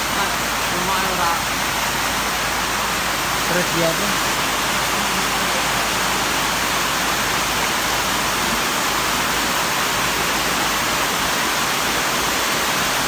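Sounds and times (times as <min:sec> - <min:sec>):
heavy rain on tent canopies: 0:00.0 - 0:13.0.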